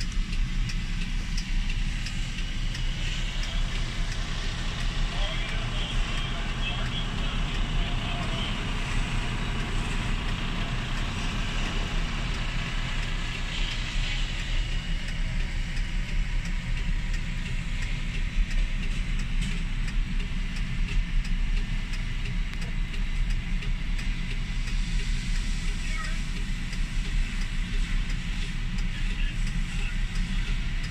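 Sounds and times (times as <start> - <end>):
truck diesel engine idling: 0.0 - 30.9.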